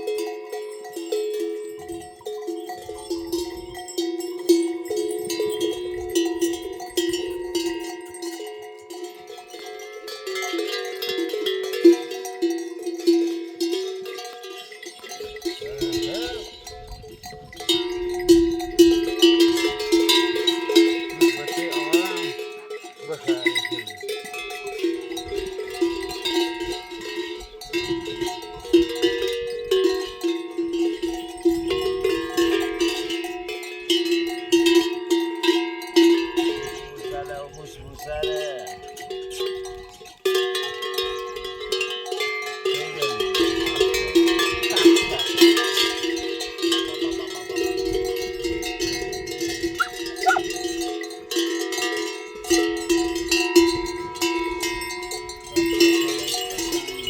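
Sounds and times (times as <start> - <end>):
livestock bells clanking: 0.0 - 57.0.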